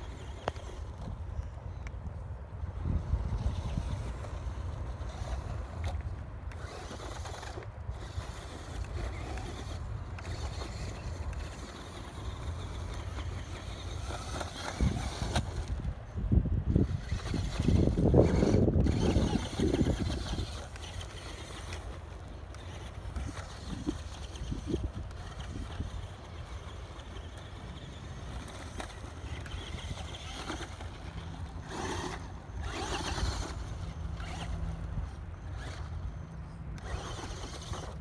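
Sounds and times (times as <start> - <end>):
radio-controlled car driving on gravel: 0.0 - 38.0
wind rumble on microphone: 0.0 - 38.0.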